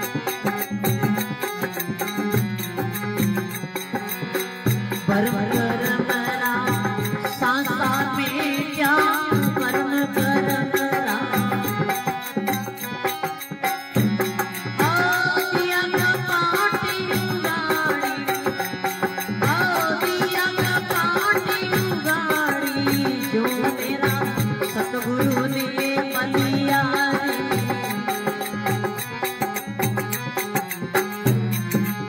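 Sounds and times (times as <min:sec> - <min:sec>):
harmonium chords: 0:00.0 - 0:32.0
man singing devotional song: 0:00.0 - 0:32.0
steady percussive beat: 0:00.0 - 0:32.0.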